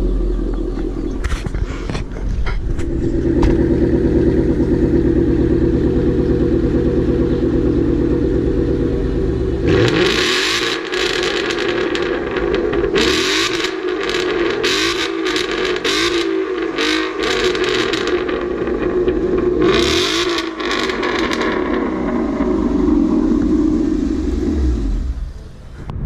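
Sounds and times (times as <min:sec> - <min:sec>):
car engine idling and revving: 0:00.0 - 0:25.8.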